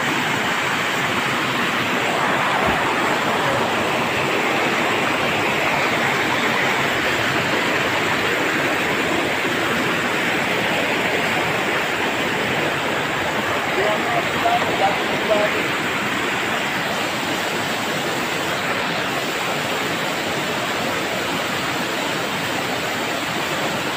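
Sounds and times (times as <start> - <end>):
stream rushing over stones: 0.0 - 23.9.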